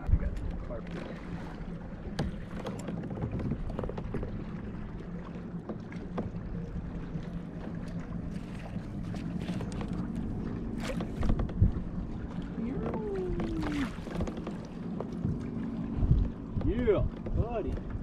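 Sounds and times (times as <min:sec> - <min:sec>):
knocks and clicks against kayak: 0:01.9 - 0:18.0.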